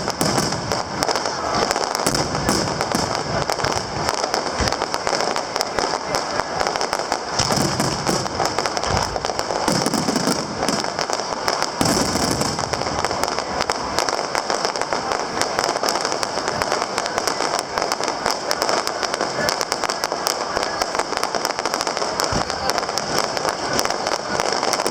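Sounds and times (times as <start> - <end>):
deep fireworks booms: 0.0 - 24.9
fireworks crackling: 0.0 - 24.9.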